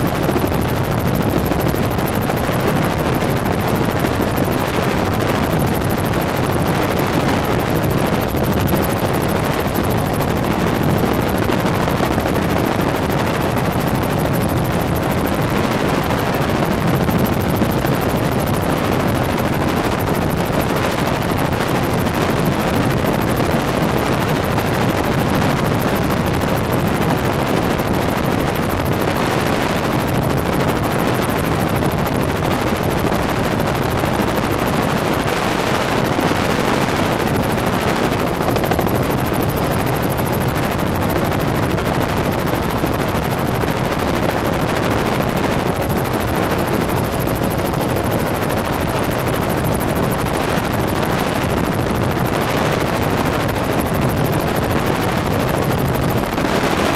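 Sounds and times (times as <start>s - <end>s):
helicopter rotor and engine noise: 0.0s - 56.9s.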